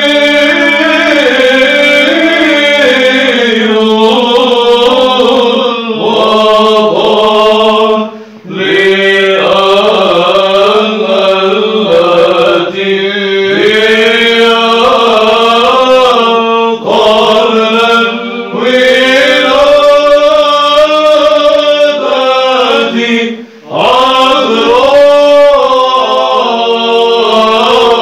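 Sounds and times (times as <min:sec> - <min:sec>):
male choir chanting: 0:00.0 - 0:28.0.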